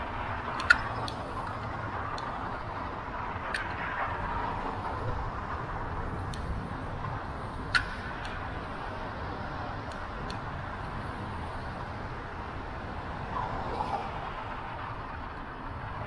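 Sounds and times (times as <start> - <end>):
street traffic rush: 0.0 - 16.0.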